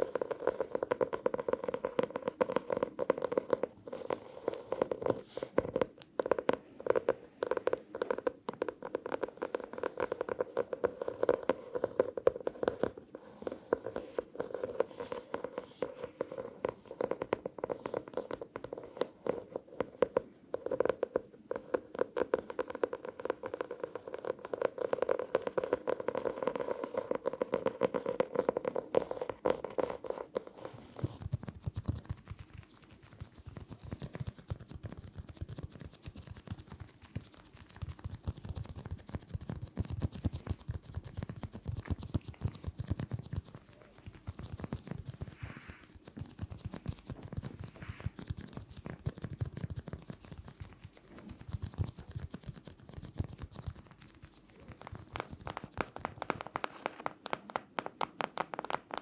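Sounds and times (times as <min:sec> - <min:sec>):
rapid scratching on an object: 0:00.0 - 0:05.8, 0:06.4 - 0:57.1.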